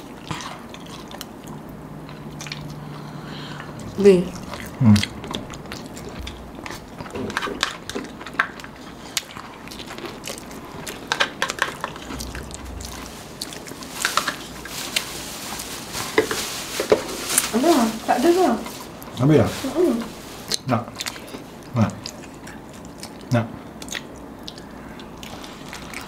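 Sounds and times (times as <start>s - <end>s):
chewing and crunching: 0.0s - 17.6s, 20.2s - 26.0s.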